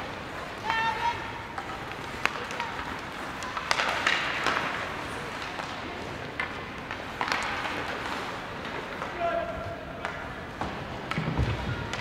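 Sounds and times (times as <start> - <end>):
hockey sticks clacking on puck: 0.0 - 12.0
voices of players and spectators: 0.0 - 12.0.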